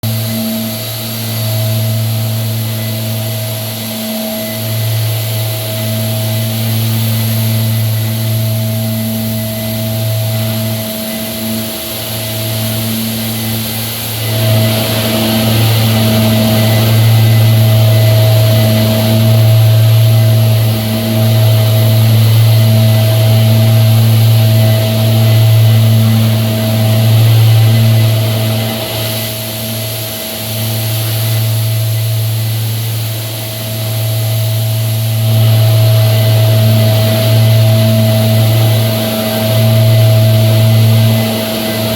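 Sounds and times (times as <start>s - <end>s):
electric sander running: 0.0s - 41.9s.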